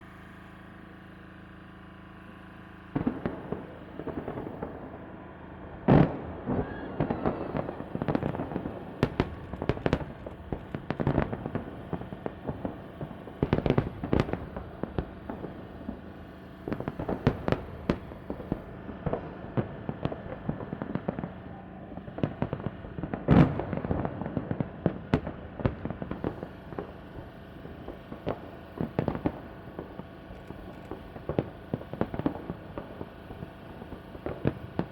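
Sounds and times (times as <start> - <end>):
fireworks crackling: 1.4 - 34.9
fireworks bursting with bangs: 2.9 - 34.9.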